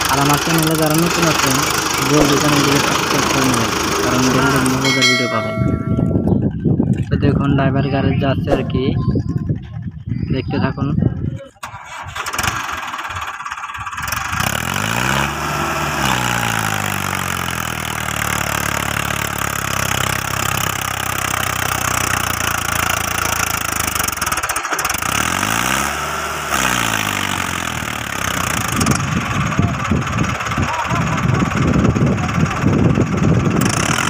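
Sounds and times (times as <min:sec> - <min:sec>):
tractor diesel engine revving: 0:00.0 - 0:10.0, 0:11.1 - 0:34.0.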